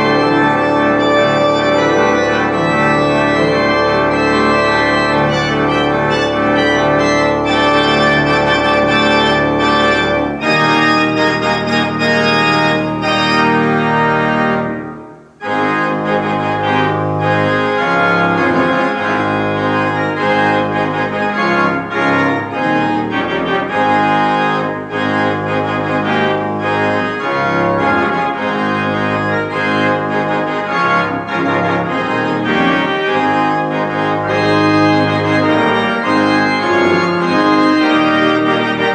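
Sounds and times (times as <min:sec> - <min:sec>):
church organ playing chords: 0:00.0 - 0:38.9.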